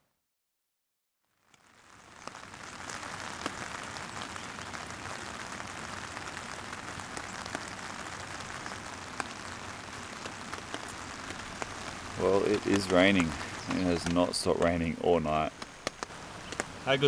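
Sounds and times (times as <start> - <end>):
steady rain falling: 1.3 - 17.0
raindrops ticking close by: 1.4 - 17.0.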